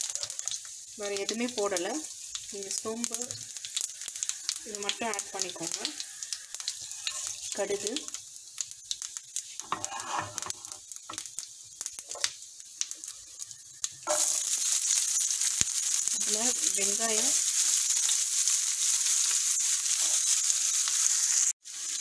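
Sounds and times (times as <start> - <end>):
onion sizzling in oil: 0.0 - 22.0
seeds crackling in hot oil: 0.0 - 22.0.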